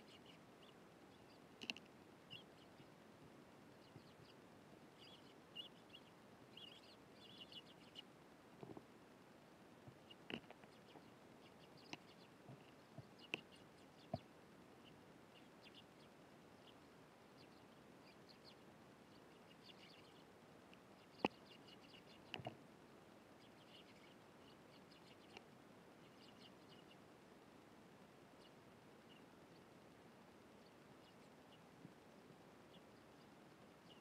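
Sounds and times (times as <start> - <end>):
sparrows chirping: 0.0 - 3.0, 3.7 - 8.1, 10.0 - 22.5, 23.2 - 27.1, 28.3 - 29.8, 30.6 - 31.8, 32.6 - 34.0.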